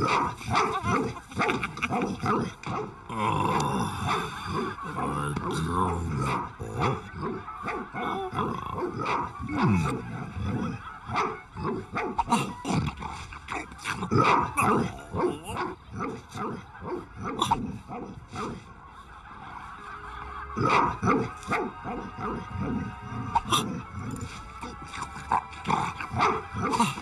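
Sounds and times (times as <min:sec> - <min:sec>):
dog barking and growling: 0:00.0 - 0:18.7, 0:20.6 - 0:27.0.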